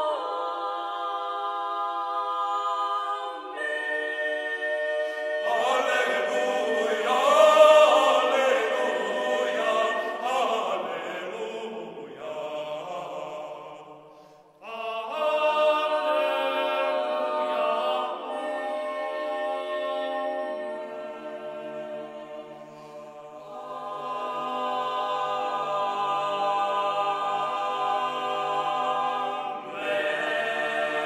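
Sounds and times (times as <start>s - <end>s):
choir singing sustained chords: 0.0s - 31.0s.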